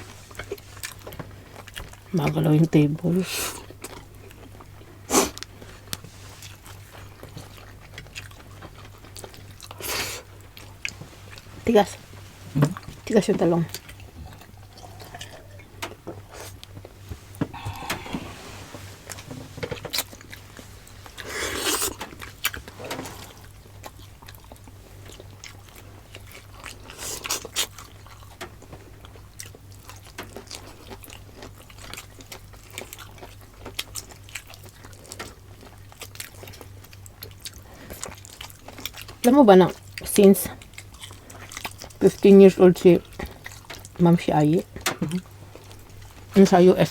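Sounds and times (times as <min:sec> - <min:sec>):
chewing and biting food: 0:00.0 - 0:02.5, 0:03.1 - 0:18.2, 0:19.0 - 0:46.4
faint low steady hum: 0:00.0 - 0:46.9.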